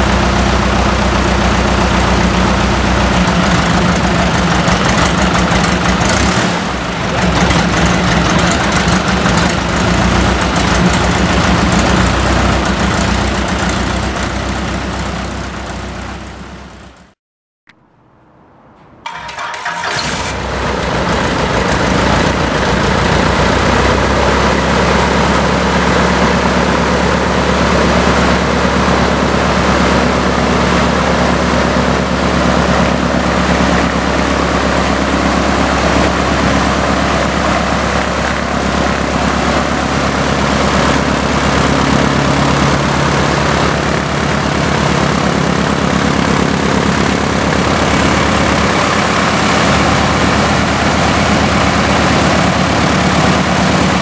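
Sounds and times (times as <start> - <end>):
aircraft engine starting and running: 0.0 - 17.9, 18.5 - 54.0.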